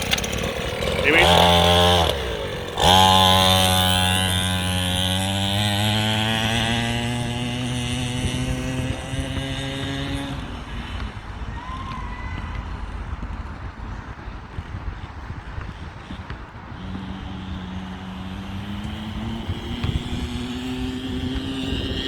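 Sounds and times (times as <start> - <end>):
dirt bike engine pulling away: 0.0 - 22.0.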